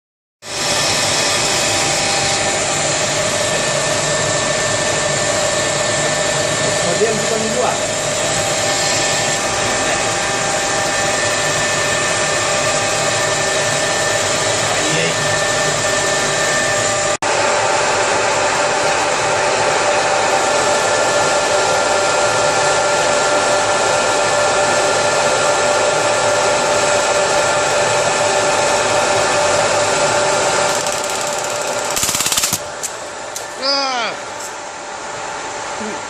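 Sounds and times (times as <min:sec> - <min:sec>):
lathe whirring with whine: 0:00.4 - 0:33.6.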